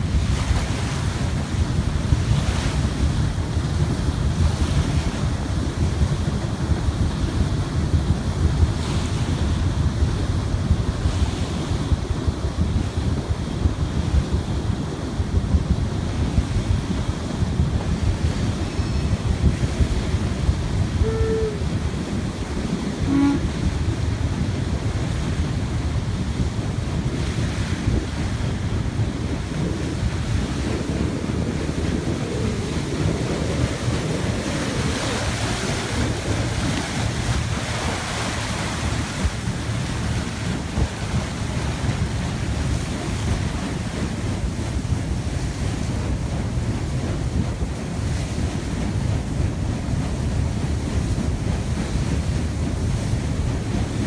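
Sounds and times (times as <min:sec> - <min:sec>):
water rushing past boat: 0:00.0 - 0:54.0
wind buffeting microphone: 0:00.0 - 0:54.0.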